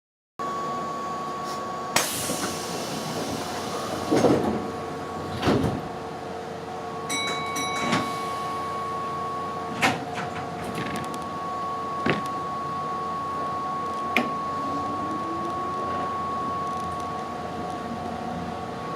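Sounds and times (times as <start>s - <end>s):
train electrical hum: 0.4s - 18.9s.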